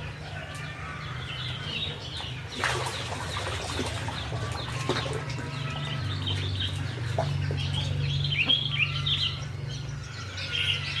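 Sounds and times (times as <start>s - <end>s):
birds chirping and clucking: 0.0s - 11.0s.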